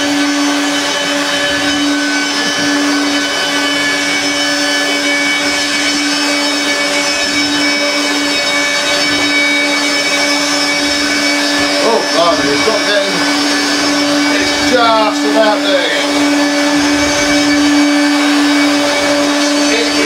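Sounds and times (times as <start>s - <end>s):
vacuum cleaner motor hum: 0.0s - 20.0s.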